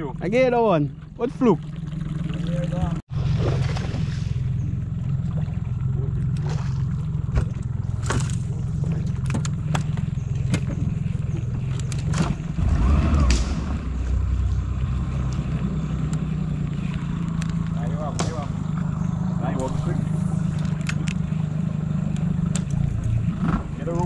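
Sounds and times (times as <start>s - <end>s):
low rumble: 1.6s - 23.9s.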